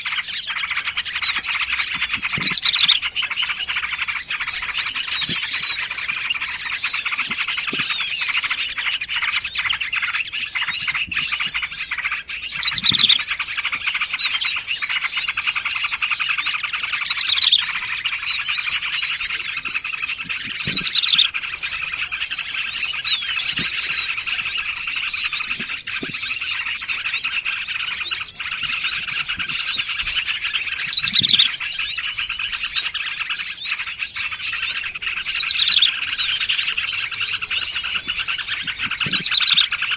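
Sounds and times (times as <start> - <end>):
songbirds singing and chattering: 0.0 - 39.9.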